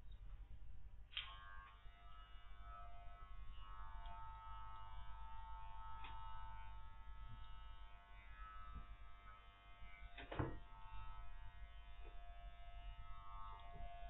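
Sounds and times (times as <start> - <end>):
electric clippers humming: 1.1 - 14.0.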